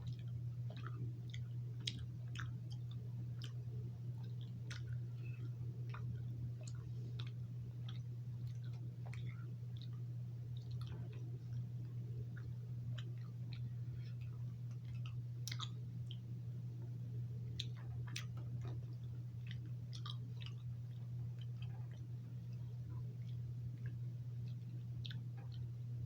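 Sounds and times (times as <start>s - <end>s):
person chewing with wet clicks: 0.0s - 26.0s
steady low hum: 0.0s - 26.0s.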